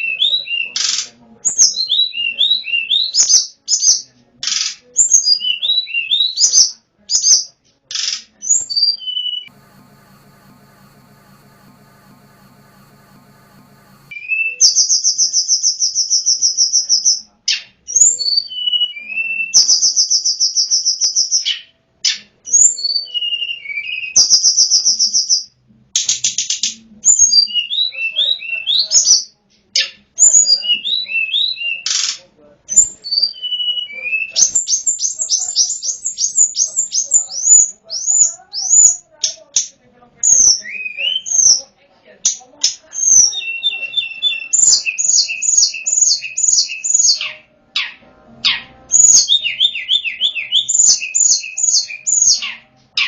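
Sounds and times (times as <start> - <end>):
bird song trills and whistles: 0.0 - 9.5, 14.1 - 25.5, 26.3 - 39.0, 40.2 - 41.6, 42.3 - 53.0.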